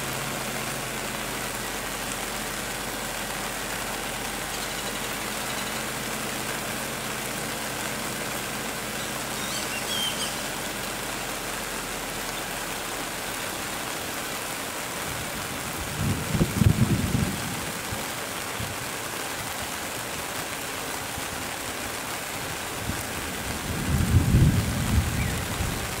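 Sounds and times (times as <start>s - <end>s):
rain falling on foliage: 0.0s - 26.0s.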